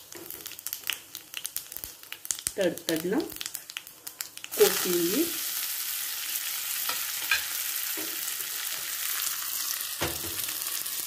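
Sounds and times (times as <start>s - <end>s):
oil sizzling in a small pan: 0.0s - 11.0s.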